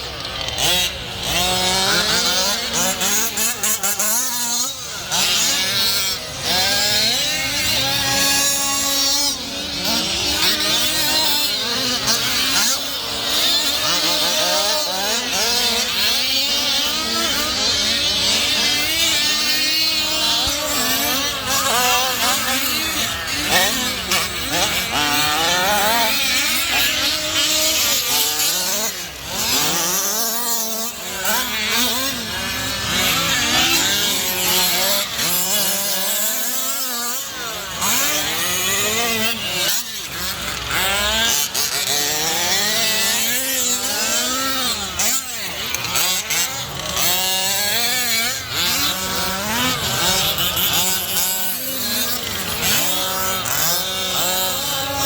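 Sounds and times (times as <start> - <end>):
small two-stroke engines revving: 0.0 - 55.0.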